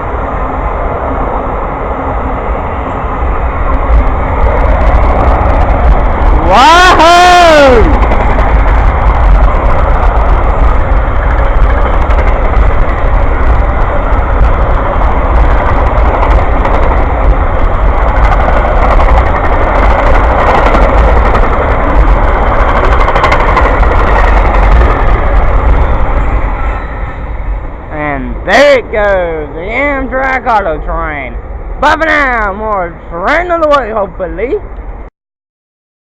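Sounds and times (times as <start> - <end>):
train wheels rumbling on rails: 0.0 - 35.1.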